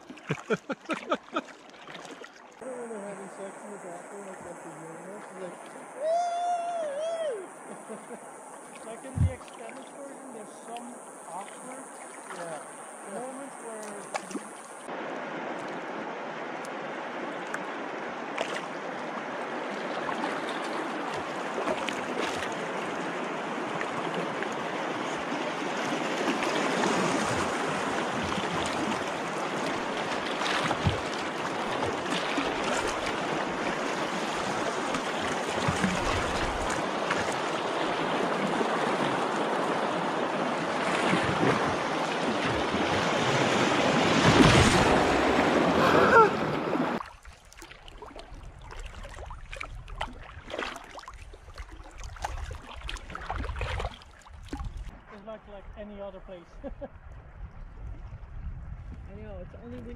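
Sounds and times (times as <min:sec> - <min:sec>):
water rushing and splashing: 0:00.0 - 0:56.5.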